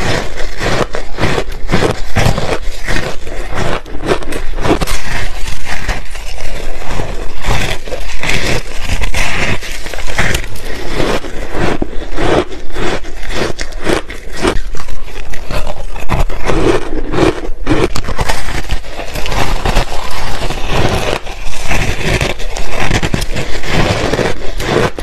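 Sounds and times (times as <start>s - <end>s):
chewing and crunching ice: 0.0s - 25.0s.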